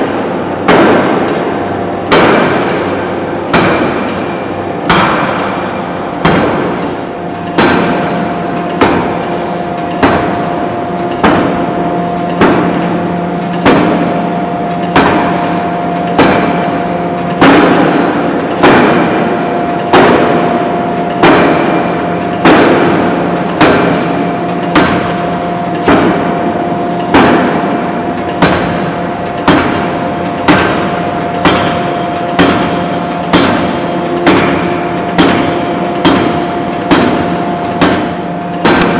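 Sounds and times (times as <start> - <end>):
forging hammer striking steel: 0.0 - 38.9
steady machine hum: 0.0 - 38.9.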